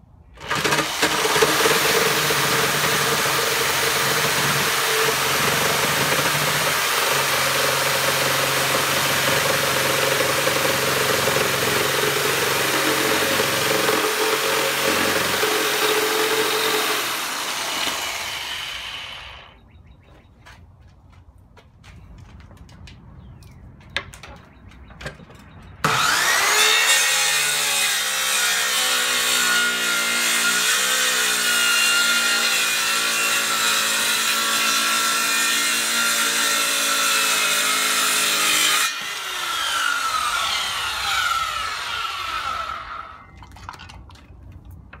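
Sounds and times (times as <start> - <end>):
circular saw cutting wood: 0.4 - 19.6, 25.8 - 43.3.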